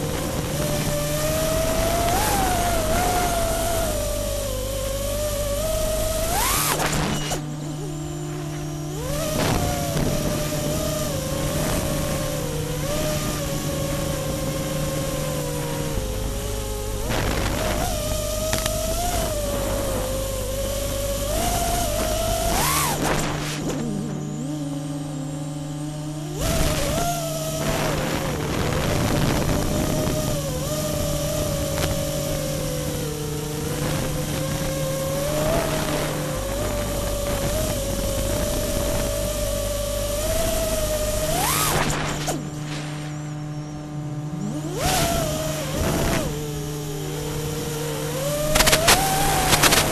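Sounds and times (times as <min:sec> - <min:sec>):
quadcopter motors whining: 0:00.0 - 0:49.9.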